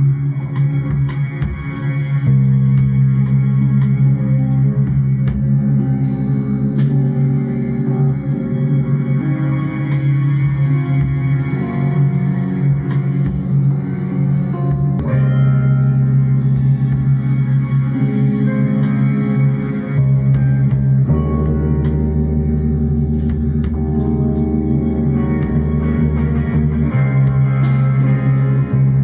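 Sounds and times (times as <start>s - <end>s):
low drone tone: 0.0s - 29.0s
plucked guitar notes: 0.0s - 29.0s.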